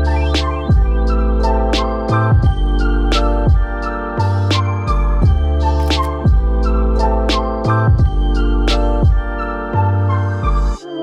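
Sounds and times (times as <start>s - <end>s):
deep bass notes: 0.0s - 10.8s
held keyboard chords: 0.0s - 11.0s.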